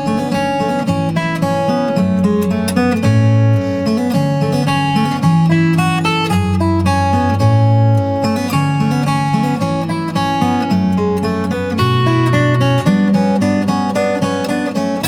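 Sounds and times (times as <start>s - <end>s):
acoustic guitar fingerpicking: 0.0s - 15.0s.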